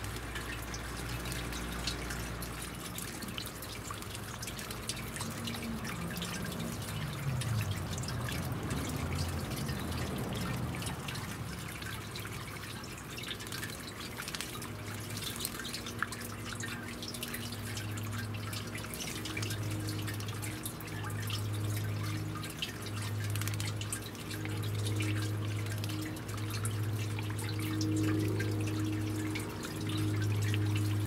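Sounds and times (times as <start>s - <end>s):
fountain water dripping: 0.0s - 31.0s
low hum: 0.0s - 31.0s.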